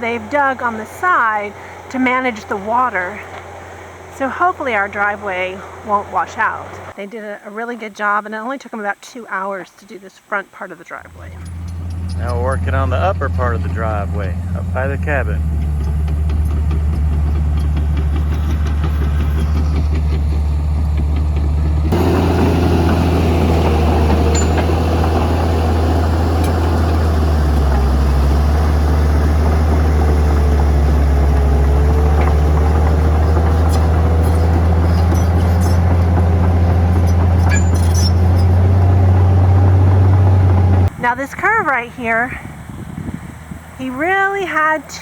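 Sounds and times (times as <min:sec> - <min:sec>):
bulldozer diesel engine droning: 0:00.0 - 0:08.2, 0:10.9 - 0:45.0.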